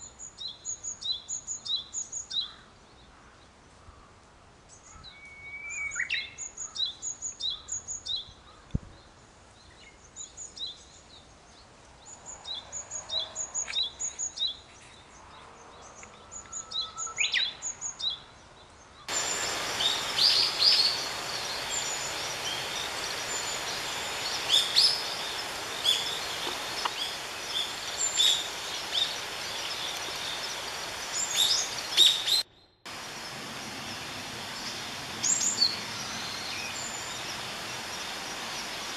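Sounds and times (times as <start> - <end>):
noisy outdoor background: 0.0 - 38.9
songbirds chirping: 0.0 - 38.9.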